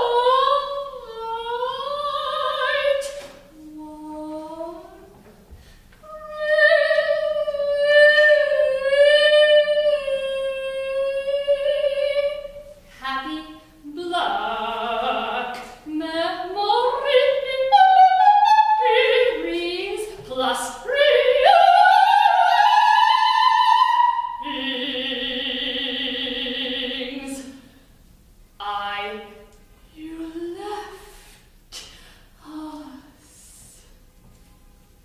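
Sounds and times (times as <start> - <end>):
soprano singing unaccompanied: 0.0 - 5.3, 6.0 - 27.7, 28.6 - 31.1.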